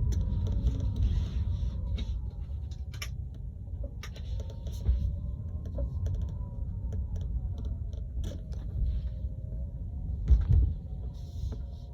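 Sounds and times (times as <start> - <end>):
low road rumble: 0.0 - 11.9.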